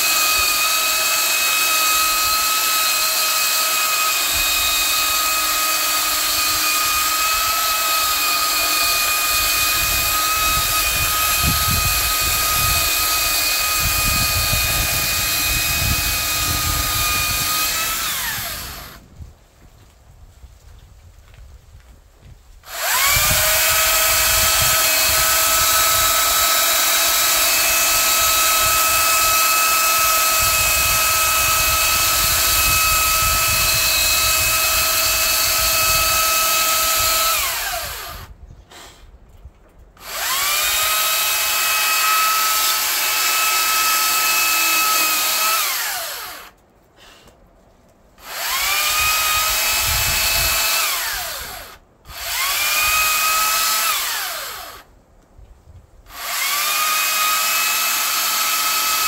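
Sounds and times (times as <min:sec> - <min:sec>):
electric chainsaw cutting log: 0:00.0 - 0:19.1, 0:22.6 - 0:38.4, 0:40.0 - 0:46.6, 0:48.2 - 0:54.9, 0:56.1 - 0:59.0.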